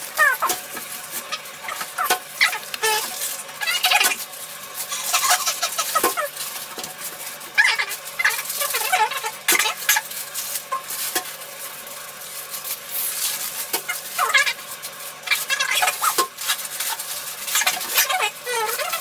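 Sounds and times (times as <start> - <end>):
plastic packets crinkling: 0.0 - 19.0.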